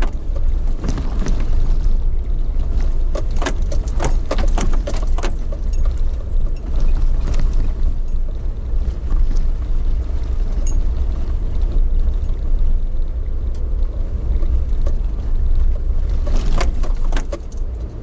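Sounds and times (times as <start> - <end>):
sharp rattles and clinks: 0.0 - 9.7, 10.5 - 12.8, 14.1 - 18.0
vehicle interior rumble: 0.0 - 18.0.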